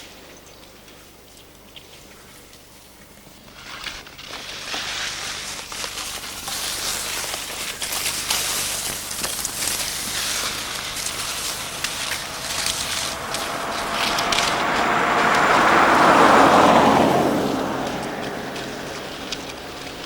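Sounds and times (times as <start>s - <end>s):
snow crunching: 2.7s - 20.0s.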